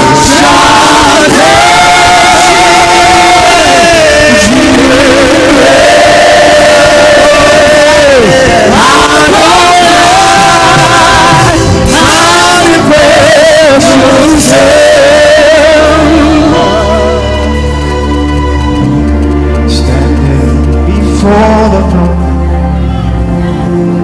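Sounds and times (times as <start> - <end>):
bass: 0.0 - 24.0
held keyboard chords: 0.0 - 24.0
person singing with vibrato: 0.0 - 24.0.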